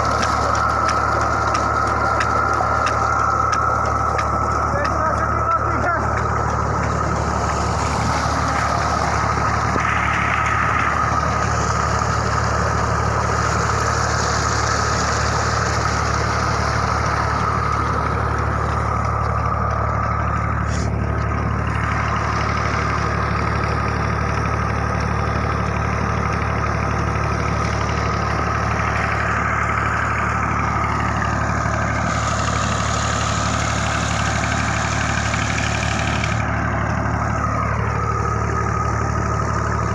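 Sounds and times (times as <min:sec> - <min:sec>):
high-pitched pump whine: 0:00.0 - 0:39.9
tractor engine running: 0:00.0 - 0:39.9.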